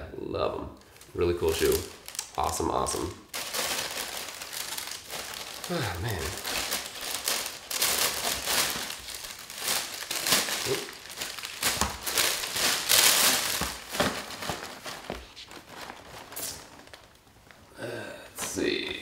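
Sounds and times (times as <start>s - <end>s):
tissue paper crinkling: 0.8s - 17.6s.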